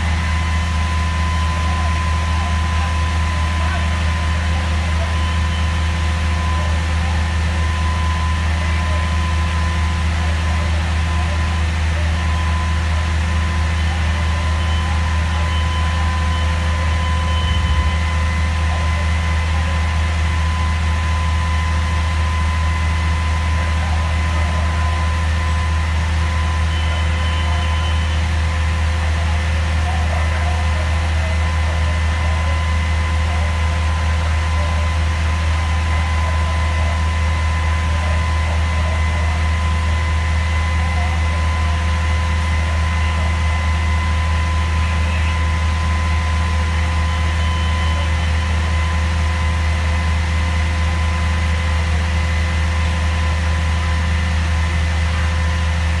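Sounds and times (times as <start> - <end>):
fire engine engine running: 0.0 - 56.0.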